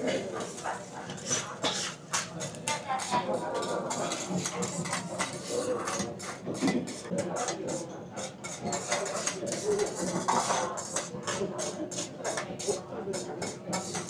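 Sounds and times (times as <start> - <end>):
metal utensils and dishes clinking: 0.0 - 14.0
people talking: 0.0 - 14.0.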